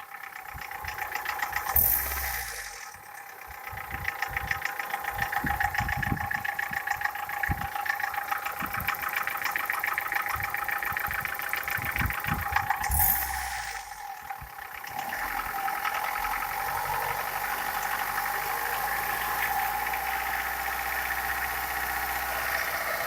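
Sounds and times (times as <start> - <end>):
engine idling with rapid knocking: 0.0 - 23.0.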